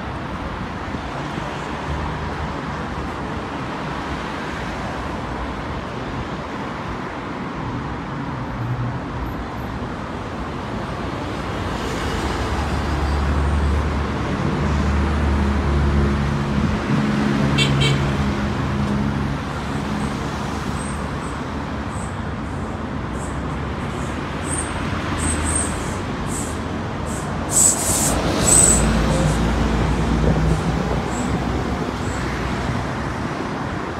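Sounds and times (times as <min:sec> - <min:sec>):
steady road traffic: 0:00.0 - 0:33.9.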